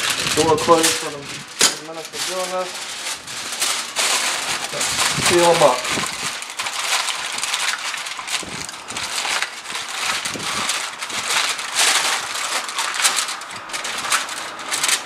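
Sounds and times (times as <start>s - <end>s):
aluminum foil crinkling: 0.0s - 15.0s.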